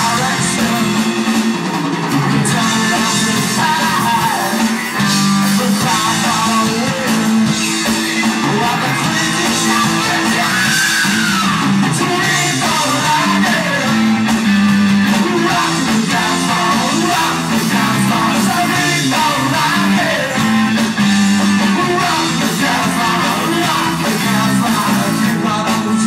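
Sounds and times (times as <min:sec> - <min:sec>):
person singing: 0:00.0 - 0:01.3, 0:02.3 - 0:14.4, 0:15.0 - 0:20.9, 0:21.6 - 0:26.0
bass guitar: 0:00.0 - 0:26.0
distorted electric guitars: 0:00.0 - 0:26.0
drums: 0:00.0 - 0:26.0.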